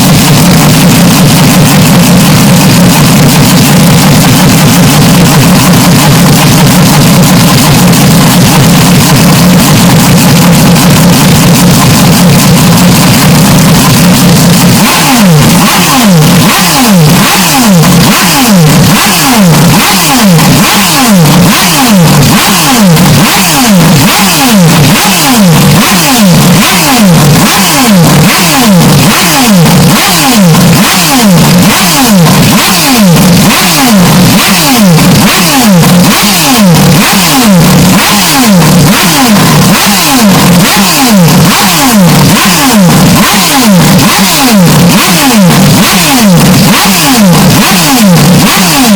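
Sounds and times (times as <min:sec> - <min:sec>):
distorted racing car engine: 0:00.0 - 0:48.9.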